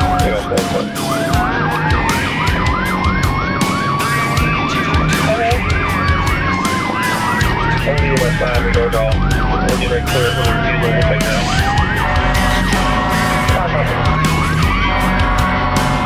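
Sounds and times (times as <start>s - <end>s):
fire truck siren yelp and wail: 0.0s - 16.0s.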